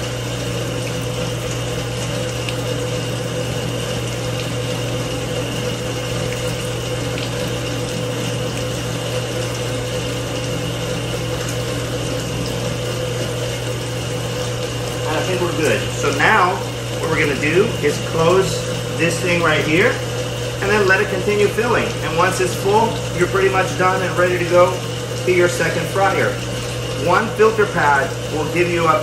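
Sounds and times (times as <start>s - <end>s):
pump humming and hissing: 0.0s - 29.0s.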